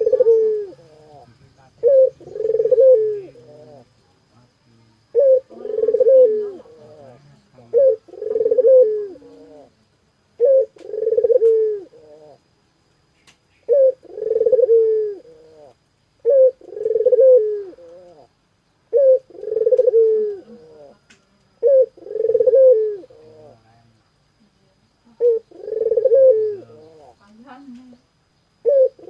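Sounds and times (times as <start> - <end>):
dove cooing: 0.0 - 3.9, 5.1 - 9.8, 10.4 - 12.4, 13.6 - 23.8, 25.1 - 28.0, 28.6 - 29.0.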